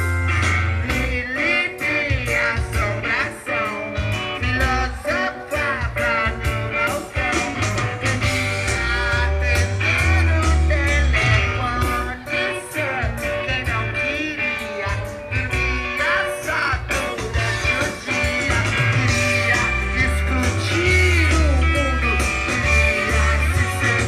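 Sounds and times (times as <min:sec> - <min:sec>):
rock band playing: 0:00.0 - 0:24.0
man singing lead: 0:00.6 - 0:24.0.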